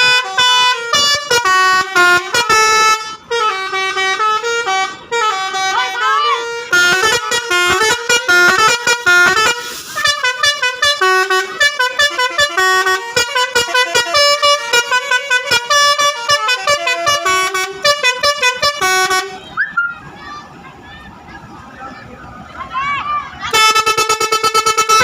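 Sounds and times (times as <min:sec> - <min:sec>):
musical air horn tune: 0:00.0 - 0:19.6, 0:23.5 - 0:25.0.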